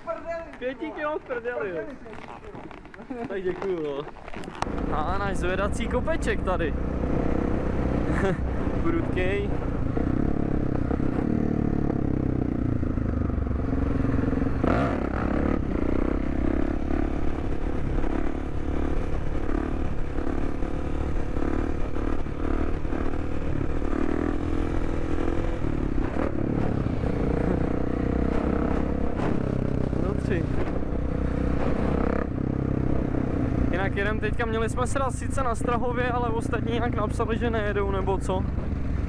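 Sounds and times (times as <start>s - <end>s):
motorcycle engine revving: 0.2s - 39.0s.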